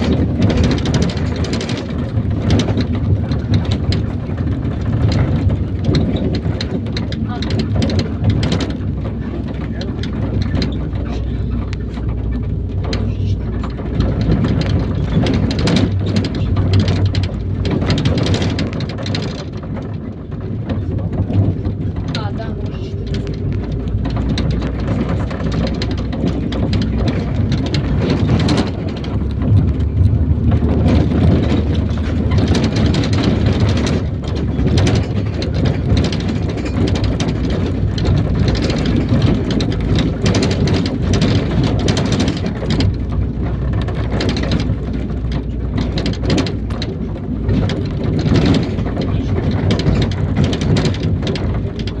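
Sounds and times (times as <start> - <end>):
bus body rattling: 0.0 - 52.0
engine and road rumble: 0.0 - 52.0.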